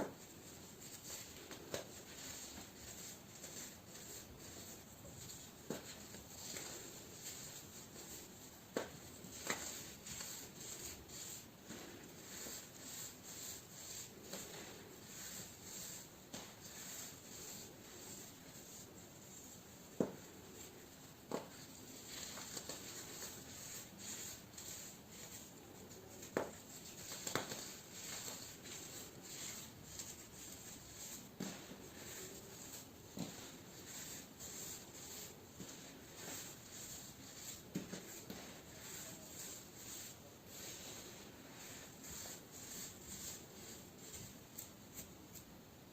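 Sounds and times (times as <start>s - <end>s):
gritty scratching of baking soda: 0.0s - 45.5s.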